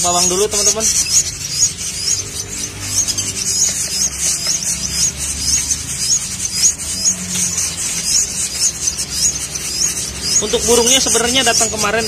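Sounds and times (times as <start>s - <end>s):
nestling birds begging chirps: 0.0s - 12.0s.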